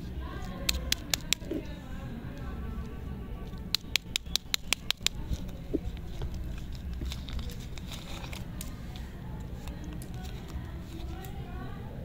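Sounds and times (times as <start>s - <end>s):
plastic wrapper crackling: 0.3s - 11.5s.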